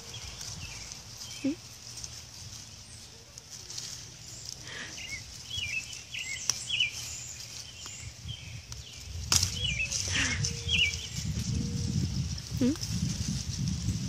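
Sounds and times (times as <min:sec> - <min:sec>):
leaves rustling: 0:00.0 - 0:14.0.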